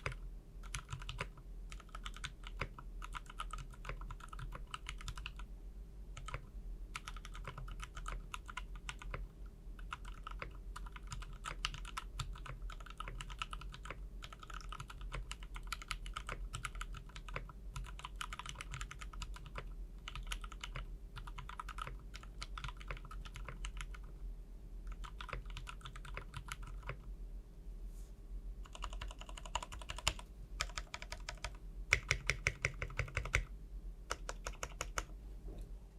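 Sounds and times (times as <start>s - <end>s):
mechanical keyboard typing: 0.0s - 5.5s, 6.2s - 24.1s, 24.9s - 27.1s, 28.6s - 33.5s, 34.1s - 35.1s.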